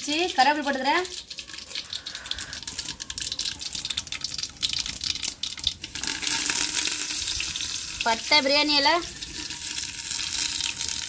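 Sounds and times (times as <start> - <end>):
oil frying hiss: 0.0 - 11.0
seeds popping in hot oil: 0.0 - 11.0.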